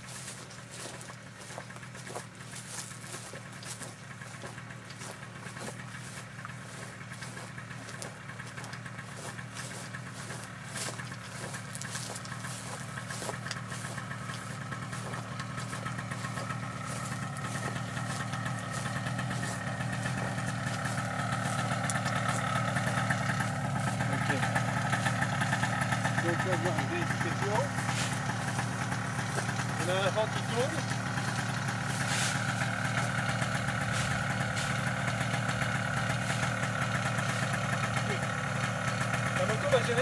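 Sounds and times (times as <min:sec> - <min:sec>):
small engine idling: 0:00.0 - 0:40.0.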